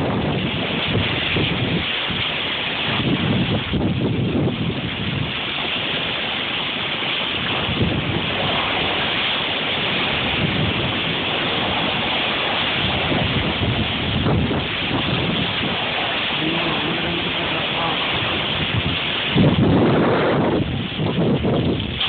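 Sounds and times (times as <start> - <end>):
wind and rain rushing: 0.0 - 22.0
wind gusts buffeting microphone: 0.0 - 22.0.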